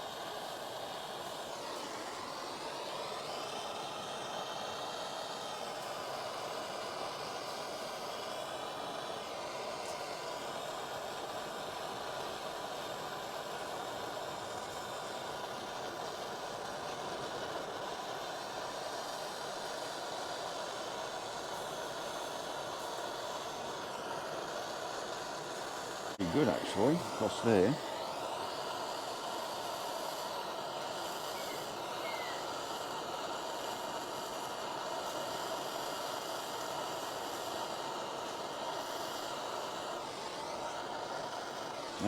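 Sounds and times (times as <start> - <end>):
gas torch hissing: 0.0 - 42.0.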